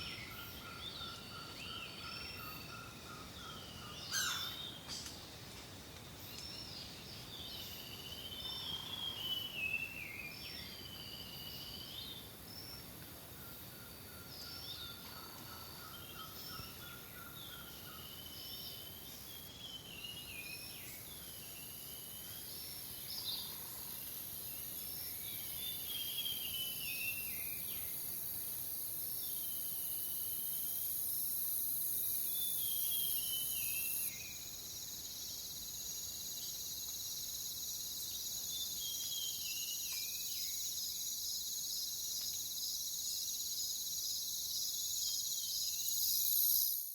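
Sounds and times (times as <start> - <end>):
songbird singing: 0.0 - 5.3, 6.2 - 46.8
insects droning: 0.0 - 46.9.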